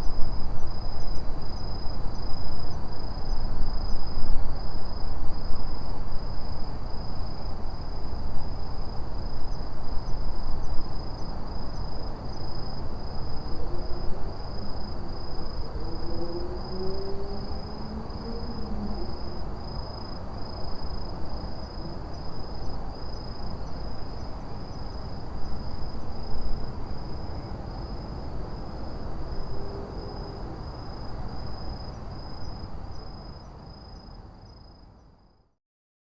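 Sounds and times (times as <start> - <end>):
low rumble of city traffic: 0.0 - 35.6.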